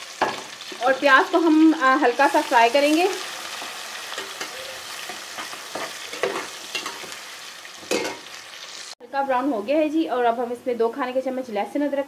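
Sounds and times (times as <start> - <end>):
onion sizzling in hot fat: 0.0 - 10.1.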